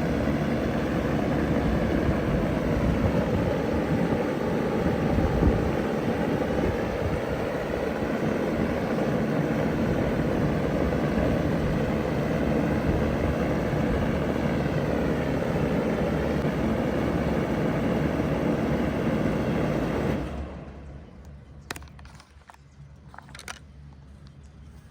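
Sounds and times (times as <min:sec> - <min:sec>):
heat pump air rush: 0:00.0 - 0:20.4.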